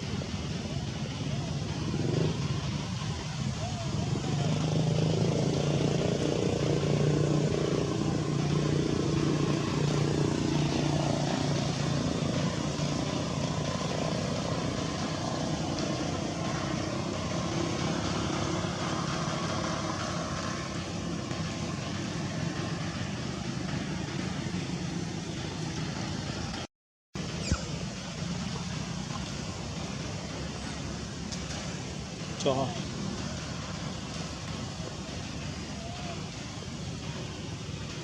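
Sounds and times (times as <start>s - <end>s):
engine humming steadily: 0.0s - 38.0s.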